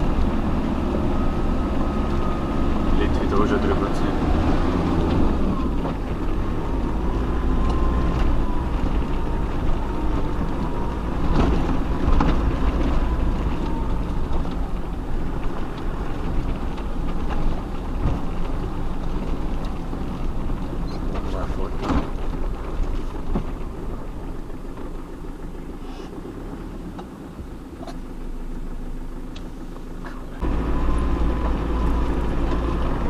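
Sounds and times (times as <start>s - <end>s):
vehicle engine running low: 0.0s - 33.0s.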